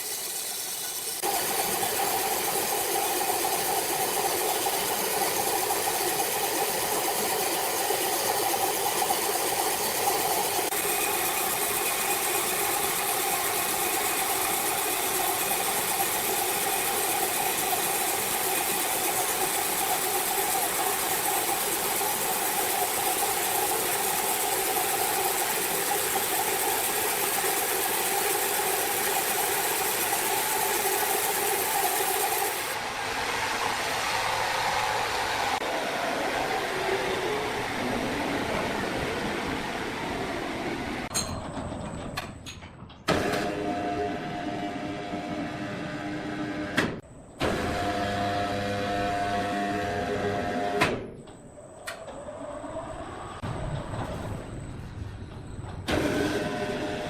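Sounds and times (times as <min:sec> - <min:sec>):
machine engine-like drone: 0:00.0 - 0:41.1, 0:43.2 - 0:57.0.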